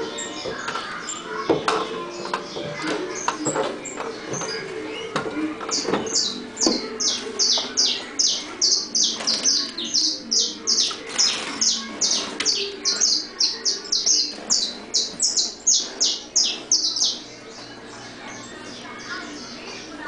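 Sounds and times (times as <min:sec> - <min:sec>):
finch singing high chirps: 0:00.0 - 0:20.0.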